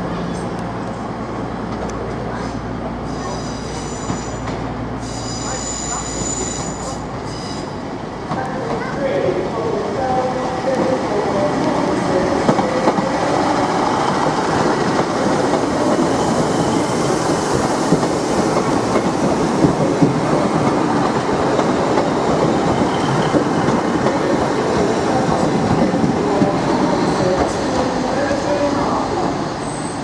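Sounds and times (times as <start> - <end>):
train rolling rumble: 0.0 - 30.0.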